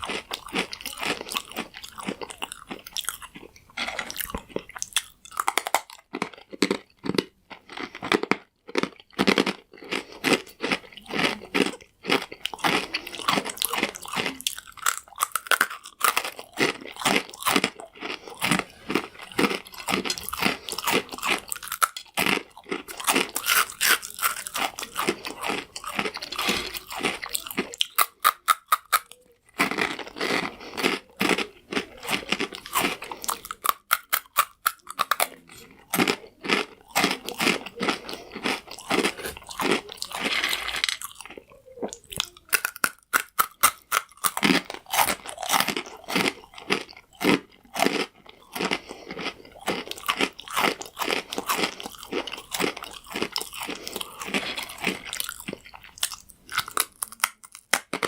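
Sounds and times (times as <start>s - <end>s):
croutons being crunched: 0.0s - 58.0s.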